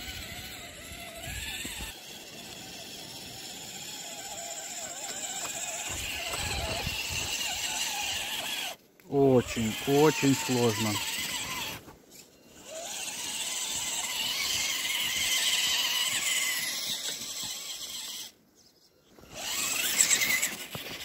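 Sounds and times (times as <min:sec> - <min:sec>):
electric motor whining: 0:00.0 - 0:18.4, 0:19.2 - 0:21.0
wheels spinning on wet snow: 0:00.0 - 0:18.4, 0:19.2 - 0:21.0.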